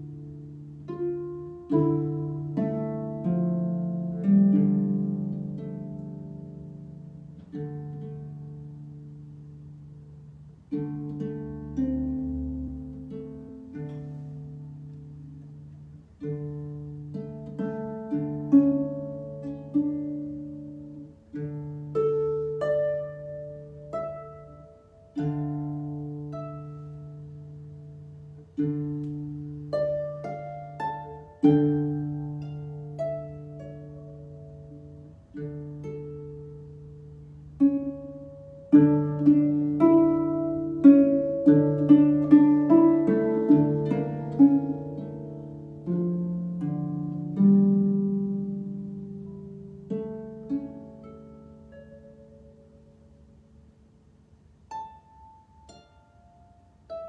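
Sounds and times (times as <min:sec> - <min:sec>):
harp played slowly: 0:00.0 - 0:57.0.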